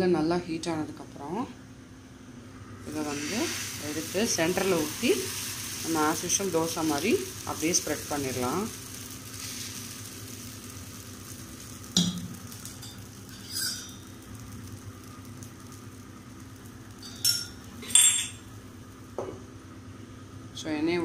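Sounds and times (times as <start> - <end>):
batter sizzling on hot pan: 2.7 - 20.4.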